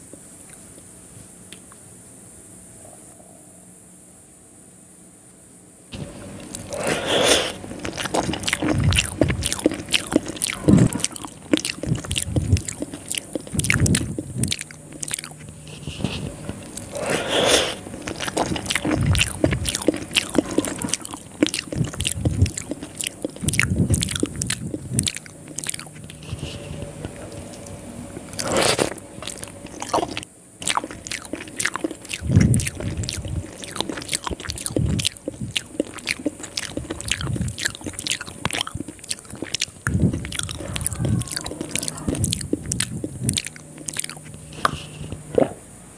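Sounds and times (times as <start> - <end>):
chewing with wet mouth clicks: 6.0 - 45.6.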